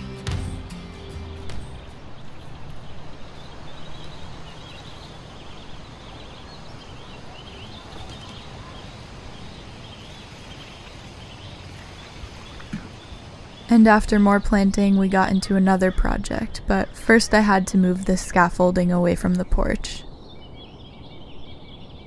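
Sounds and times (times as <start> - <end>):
outdoor background noise: 0.0 - 22.0
small birds chirping: 0.8 - 22.0.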